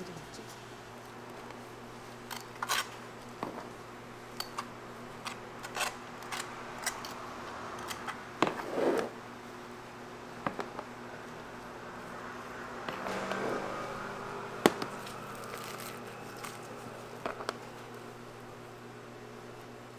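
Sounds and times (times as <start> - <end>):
steady hum: 0.0 - 19.9.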